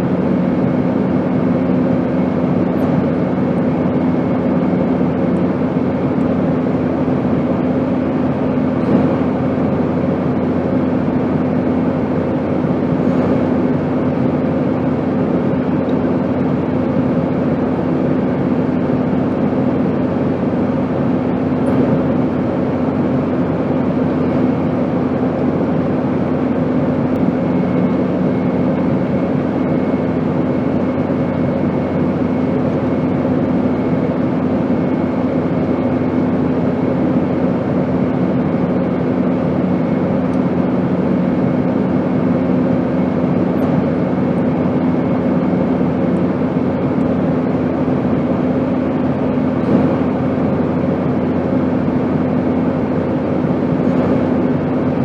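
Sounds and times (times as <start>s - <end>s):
airplane drone: 0.0s - 55.0s.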